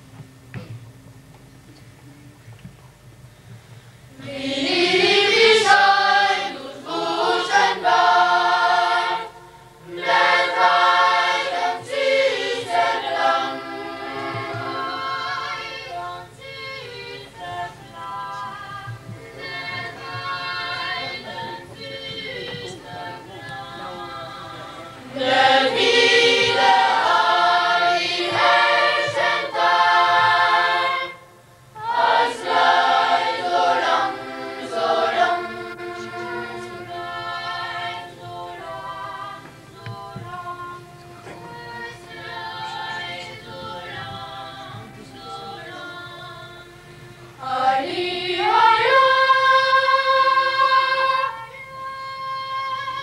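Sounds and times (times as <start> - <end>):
boys' choir singing a cappella: 4.2 - 53.0.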